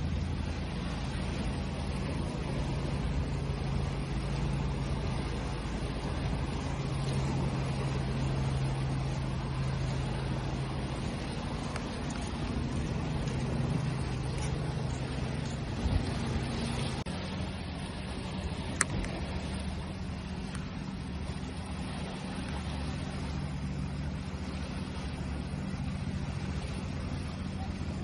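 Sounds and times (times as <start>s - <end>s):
constant low hum: 0.0s - 28.0s
higher hum: 0.0s - 28.0s
waves washing: 0.0s - 28.0s.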